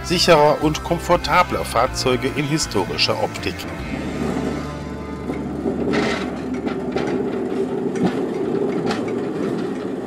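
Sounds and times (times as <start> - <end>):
steel wheels rumbling on rails: 0.0 - 10.0.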